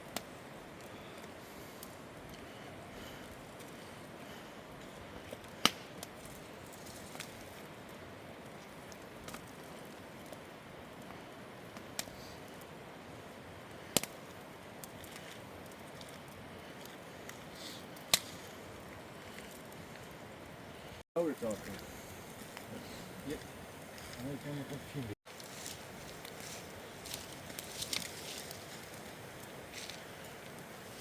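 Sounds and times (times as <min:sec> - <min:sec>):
campfire wood crackling: 0:00.0 - 0:31.0.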